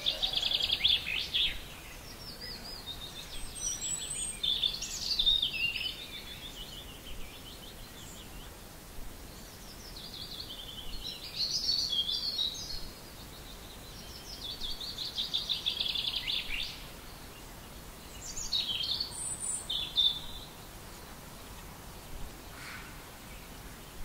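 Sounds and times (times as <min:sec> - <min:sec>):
songbirds singing trills: 0:00.0 - 0:24.0
steady background hiss: 0:00.0 - 0:24.0.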